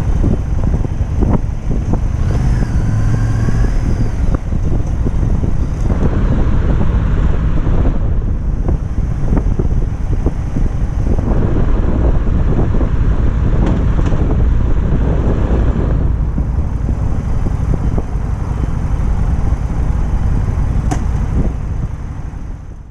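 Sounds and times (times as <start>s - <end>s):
motorcycle engine at speed: 0.0s - 22.9s
wind buffeting microphone: 0.0s - 22.9s.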